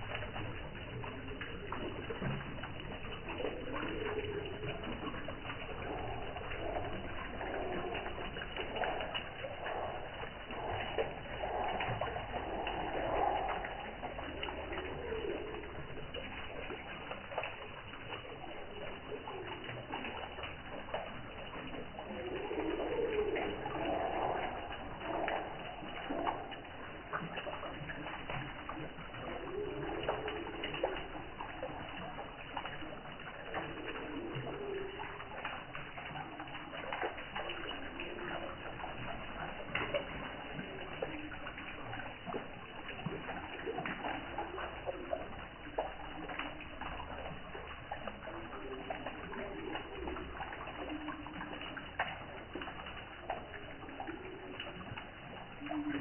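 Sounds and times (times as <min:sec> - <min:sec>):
dove cooing: 0:00.0 - 0:56.0
waterfall splashing on stone: 0:00.0 - 0:56.0.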